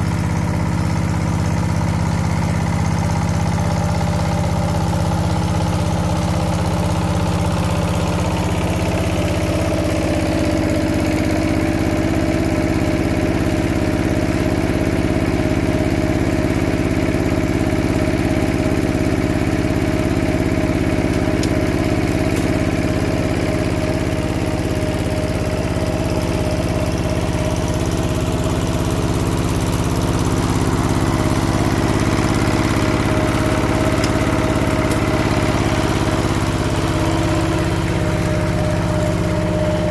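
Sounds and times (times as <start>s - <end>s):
tiller diesel engine running: 0.0s - 39.9s.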